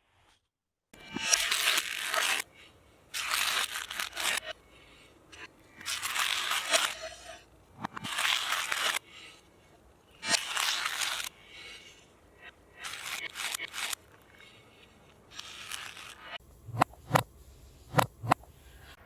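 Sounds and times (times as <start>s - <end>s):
reversed crunching and scraping: 1.0s - 19.0s.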